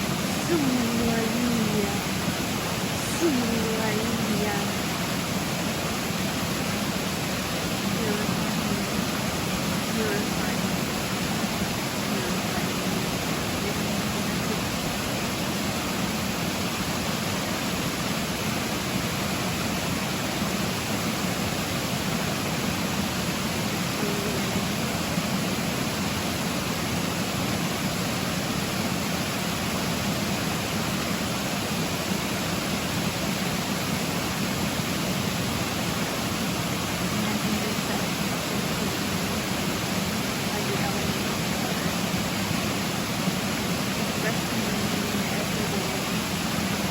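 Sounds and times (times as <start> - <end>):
running water rushing: 0.0 - 46.9.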